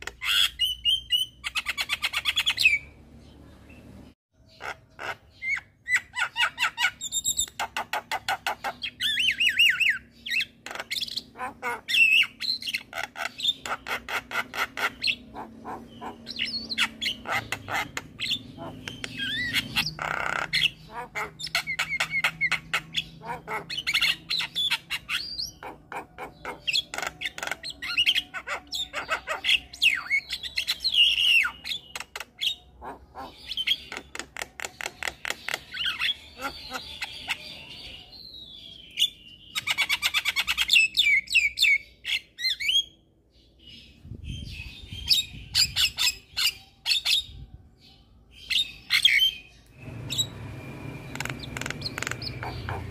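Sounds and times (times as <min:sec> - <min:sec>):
myna bird singing: 0:00.0 - 0:52.9.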